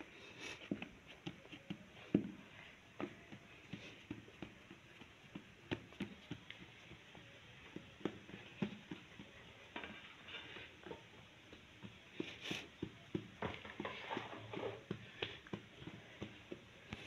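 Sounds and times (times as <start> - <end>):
hands rubbing dough: 0.0 - 17.0.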